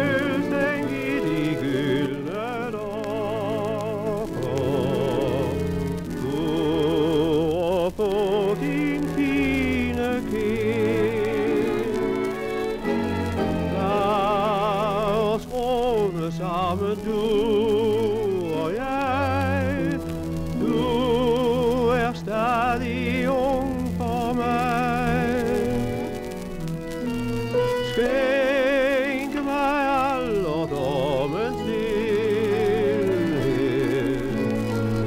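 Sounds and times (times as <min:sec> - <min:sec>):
man singing with vibrato: 0:00.0 - 0:35.0
small orchestra: 0:00.0 - 0:35.0.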